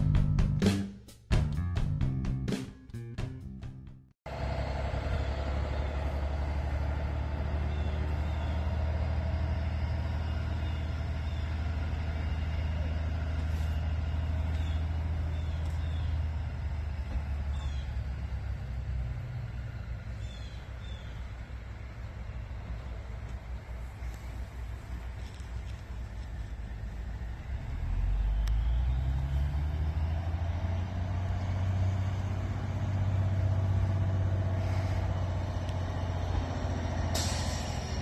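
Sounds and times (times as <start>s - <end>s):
diesel truck engine rumbling: 0.0s - 38.0s.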